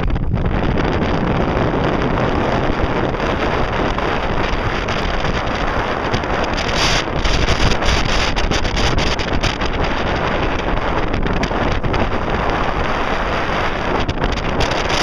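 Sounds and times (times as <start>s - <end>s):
strong wind buffeting microphone: 0.0s - 15.0s
water rushing along hull: 0.0s - 15.0s.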